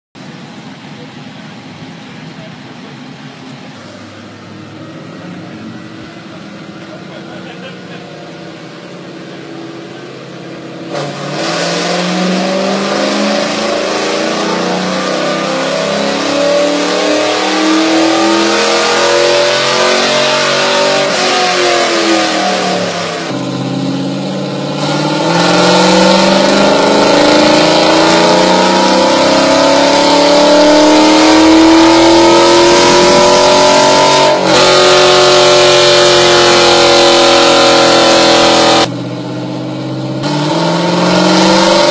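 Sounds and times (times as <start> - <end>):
car engine revving: 0.2 - 41.9.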